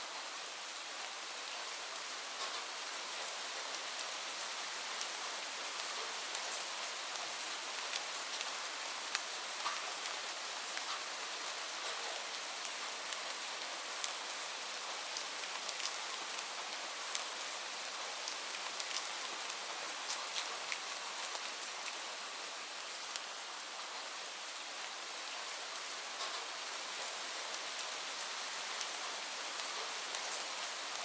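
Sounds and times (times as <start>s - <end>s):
rain falling on leaves: 0.0s - 31.0s.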